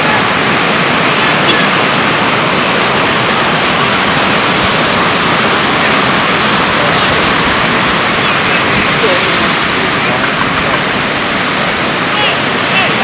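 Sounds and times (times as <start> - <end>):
heavy surf breaking: 0.0 - 13.0.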